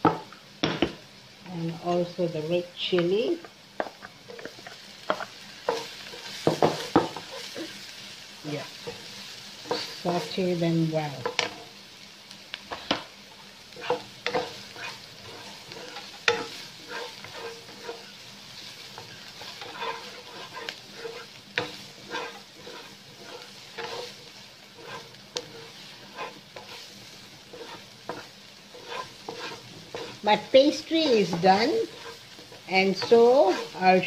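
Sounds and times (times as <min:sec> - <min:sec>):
vegetables sizzling in oil: 0:00.0 - 0:34.0
wooden spatula scraping a wok: 0:04.2 - 0:11.8, 0:13.7 - 0:34.0.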